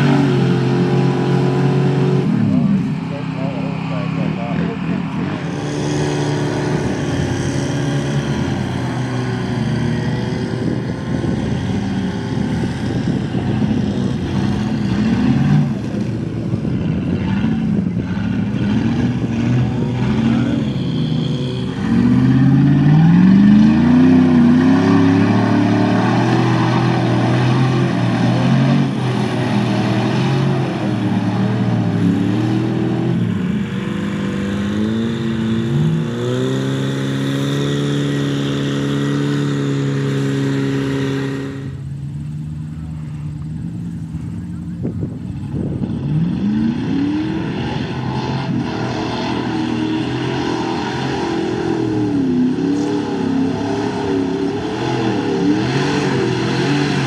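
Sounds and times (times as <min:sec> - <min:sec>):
truck churning through mud: 0:00.0 - 0:57.0
truck engine revving: 0:00.0 - 0:57.0.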